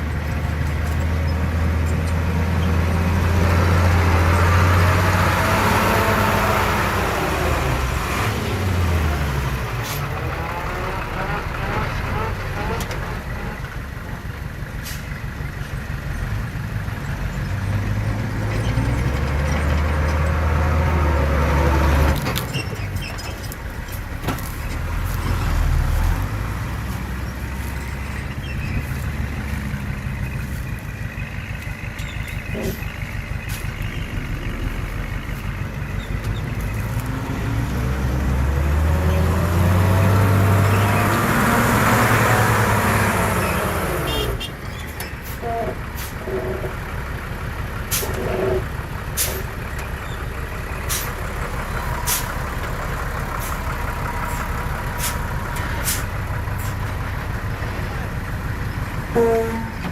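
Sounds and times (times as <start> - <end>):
heavy diesel machinery working: 0.0 - 59.9.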